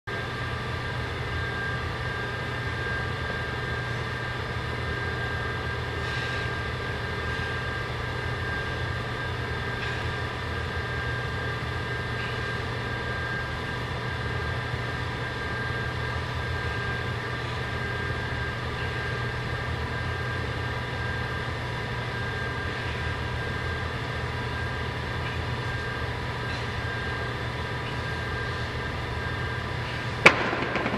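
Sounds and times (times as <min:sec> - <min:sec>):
machine hum: 0:00.1 - 0:30.9.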